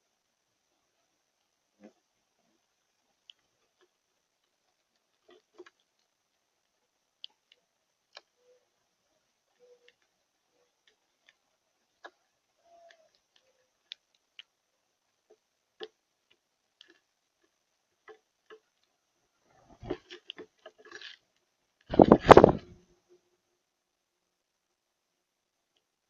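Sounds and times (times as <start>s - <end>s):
rustling: 0.0s - 23.2s
faint clicks and taps: 1.3s - 22.8s.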